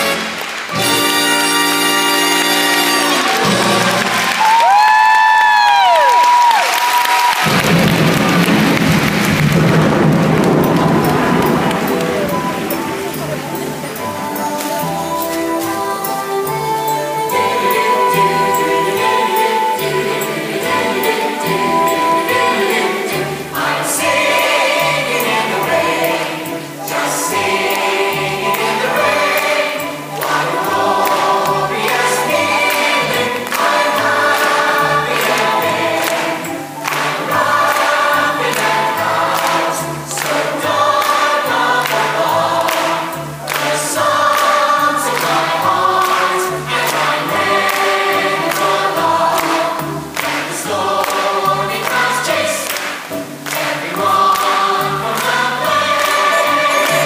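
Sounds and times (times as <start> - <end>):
pit orchestra: 0.0 - 57.0
ensemble singing in chorus: 7.4 - 57.0.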